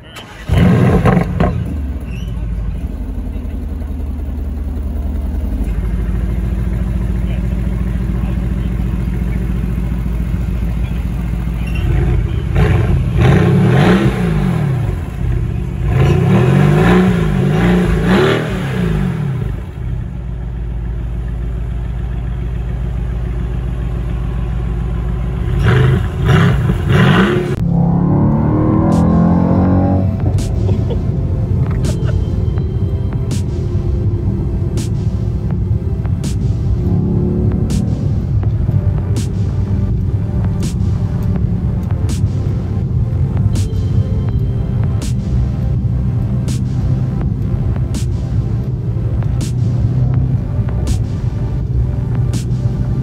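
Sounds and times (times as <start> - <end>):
car engine idling: 0.0 - 53.0
car engine revving: 0.0 - 53.0.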